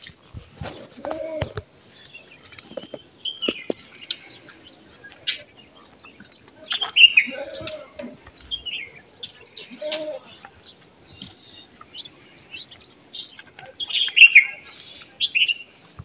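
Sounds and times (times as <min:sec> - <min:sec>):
low bird calls: 0:00.6 - 0:16.0
birds chirping downward: 0:00.8 - 0:15.9.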